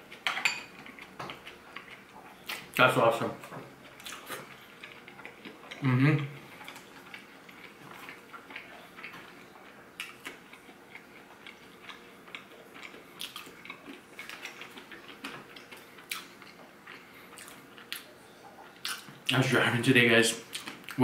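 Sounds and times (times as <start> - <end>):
chewing and mouth sounds: 0.0 - 2.8, 3.7 - 19.4, 20.4 - 21.0.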